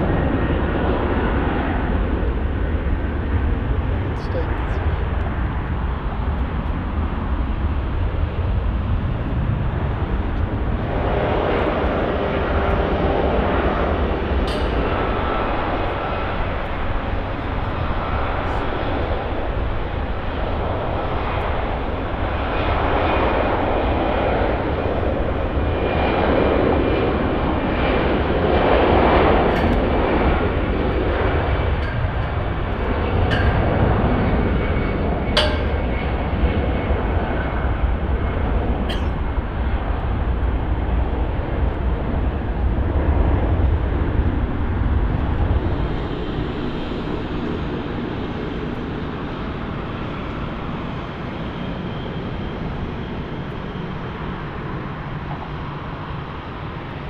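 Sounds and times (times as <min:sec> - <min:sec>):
airliner engines rumbling: 0:00.0 - 0:57.0.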